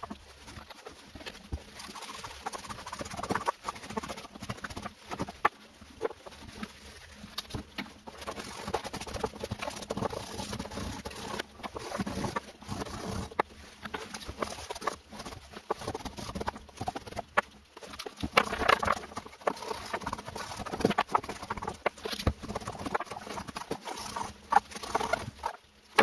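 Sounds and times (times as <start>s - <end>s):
small parts tapping and scraping: 0.0s - 26.0s.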